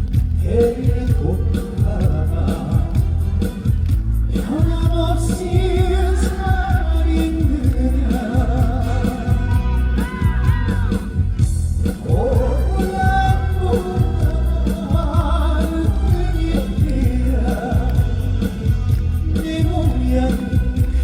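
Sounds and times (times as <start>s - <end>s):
backing track with steady beat: 0.0s - 21.0s
man singing with vibrato: 0.0s - 21.0s.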